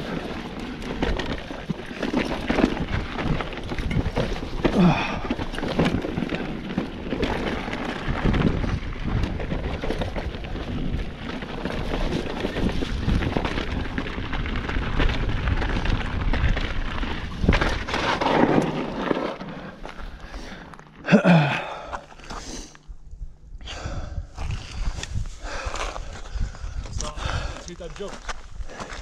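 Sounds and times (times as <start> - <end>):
bike rattling: 0.0 - 29.0
bike tyres crunching over rocks: 0.0 - 29.0.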